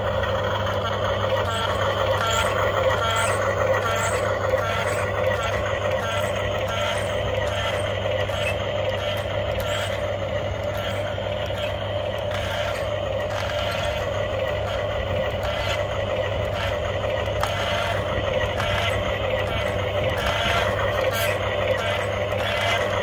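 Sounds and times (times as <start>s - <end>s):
toy vehicles humming: 0.0s - 23.0s.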